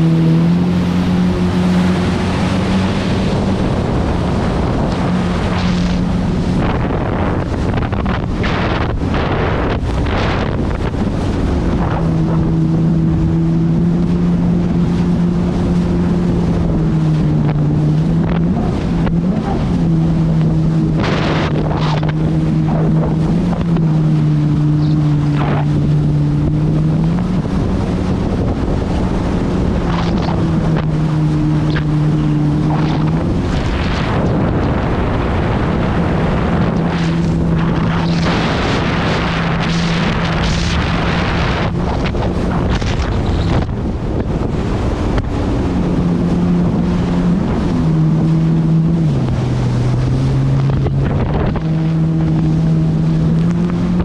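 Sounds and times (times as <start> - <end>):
jet ski engine: 0.0 - 54.0
wind buffeting microphone: 0.0 - 54.0.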